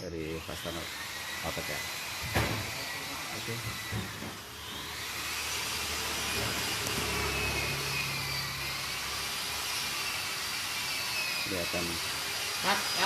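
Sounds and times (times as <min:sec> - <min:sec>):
motor-driven machine whining: 0:00.0 - 0:13.0.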